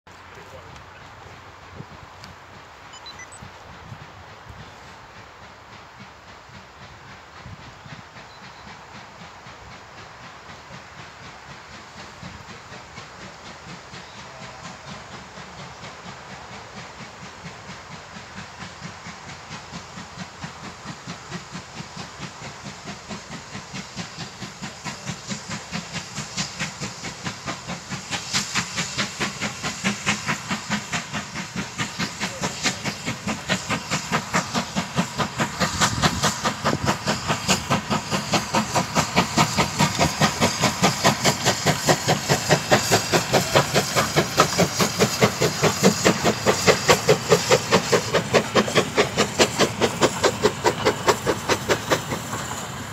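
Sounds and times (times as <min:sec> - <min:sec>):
steam exhaust beats: 0:00.2 - 0:52.9
steam hissing: 0:00.3 - 0:52.9.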